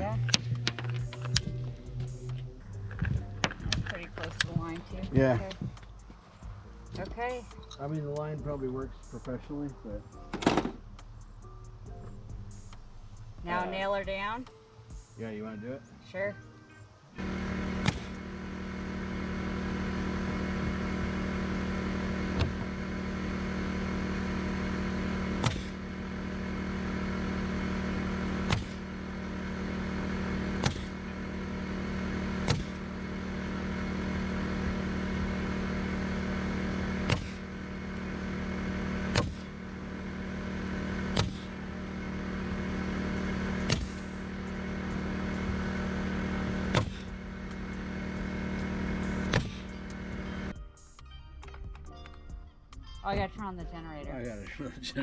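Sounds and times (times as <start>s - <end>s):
air compressor humming: 0.0s - 14.4s, 17.2s - 50.6s.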